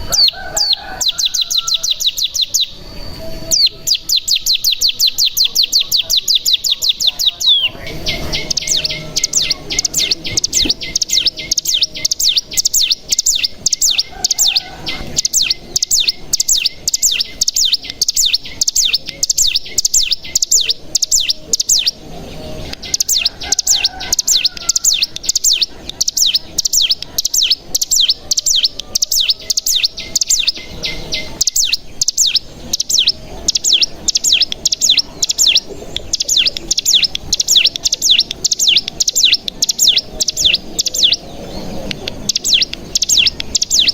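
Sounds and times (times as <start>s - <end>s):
bird singing rapid trill: 0.0s - 43.9s.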